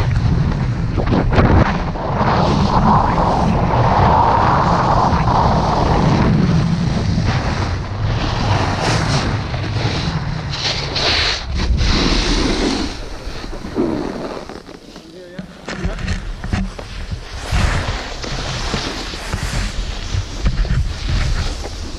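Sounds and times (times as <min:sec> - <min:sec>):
wind buffeting microphone: 0:00.0 - 0:14.8, 0:15.5 - 0:21.9
snowboard scraping icy snow: 0:00.1 - 0:21.9.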